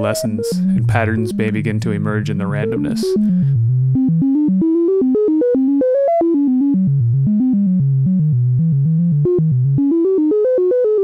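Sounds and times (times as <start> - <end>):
synthesizer random pitch notes: 0.0 - 11.0.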